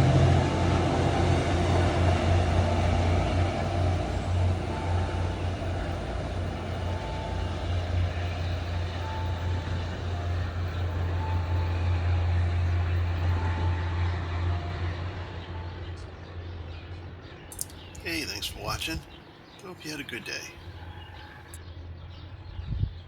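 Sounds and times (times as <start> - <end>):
rail noise: 0.0 - 21.9
diesel locomotive engine drone: 0.0 - 22.4.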